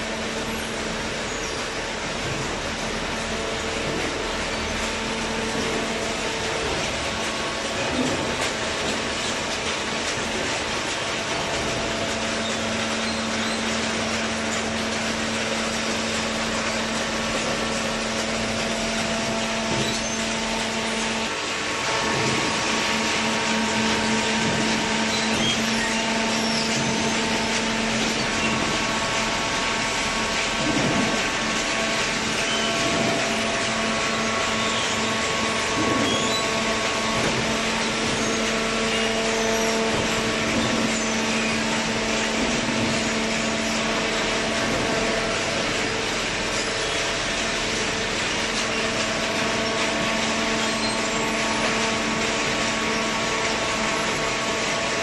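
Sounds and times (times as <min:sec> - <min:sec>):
hydraulic machine running: 0:00.0 - 0:55.0.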